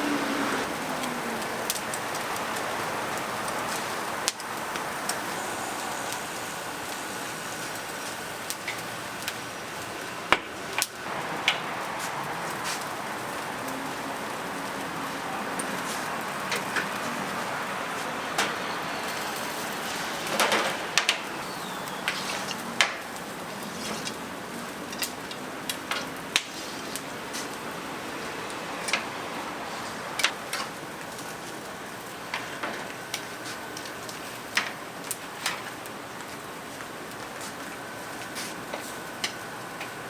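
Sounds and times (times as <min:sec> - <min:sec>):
steady kitchen hiss: 0:00.0 - 0:40.0.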